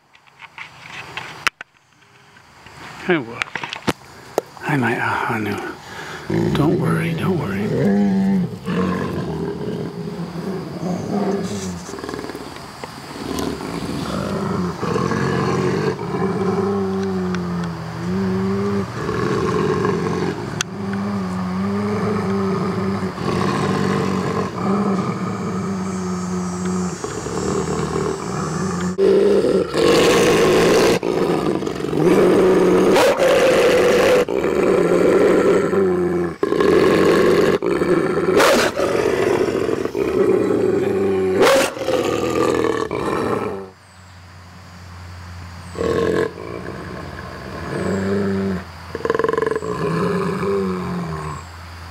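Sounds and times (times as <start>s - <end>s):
wolves growling and snarling: 5.9s - 43.8s, 45.8s - 51.5s.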